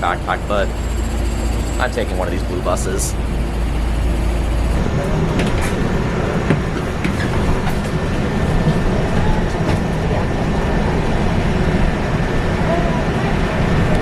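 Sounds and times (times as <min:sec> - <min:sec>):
city bus rumbling: 0:00.0 - 0:14.0.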